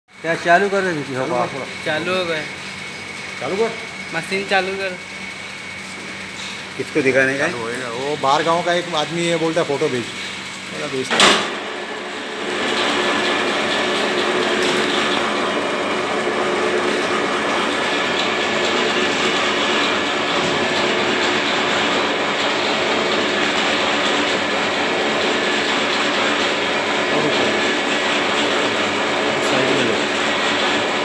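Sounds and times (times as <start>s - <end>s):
soap mixer running: 0.1s - 31.0s.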